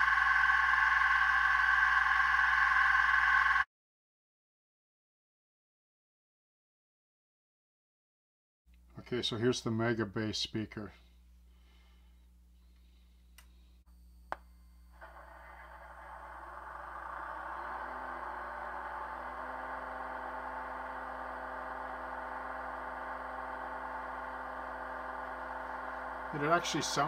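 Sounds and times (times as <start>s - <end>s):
steady mechanical hum: 0.0s - 3.7s, 8.7s - 27.0s.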